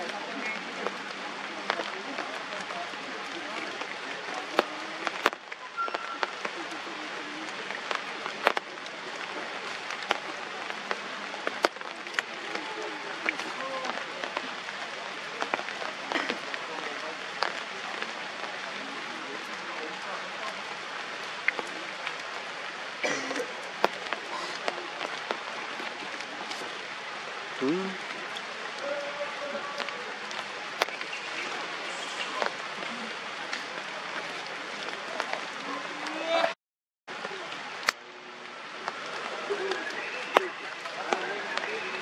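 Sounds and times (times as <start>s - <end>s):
sharp close drips: 0.0s - 36.2s
large raindrops tapping: 0.0s - 36.3s, 37.1s - 42.0s
rain falling on foliage: 0.0s - 36.5s, 37.1s - 42.0s.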